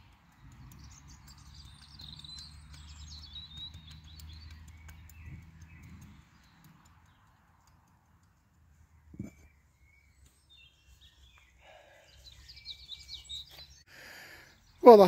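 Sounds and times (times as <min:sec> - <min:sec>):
songbird warbling and chirping: 0:00.0 - 0:07.3, 0:08.9 - 0:15.0.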